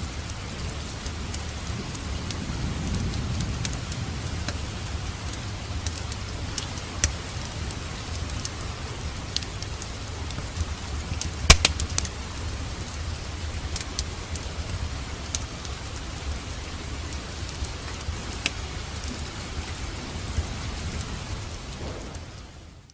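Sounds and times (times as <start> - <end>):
steady rain: 0.0 - 22.9
fireplace crackling and popping: 0.1 - 2.3, 2.9 - 22.9.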